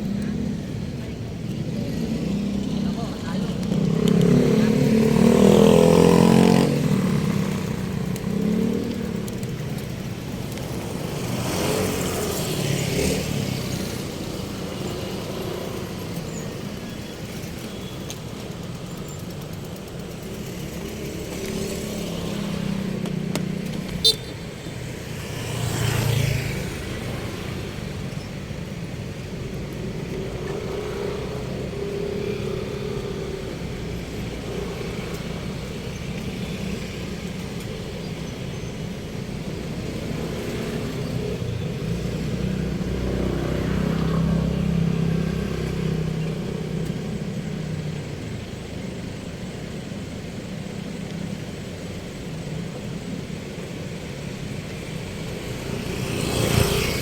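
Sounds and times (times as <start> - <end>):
road traffic rumble: 0.0 - 57.0
vehicles passing: 0.0 - 57.0.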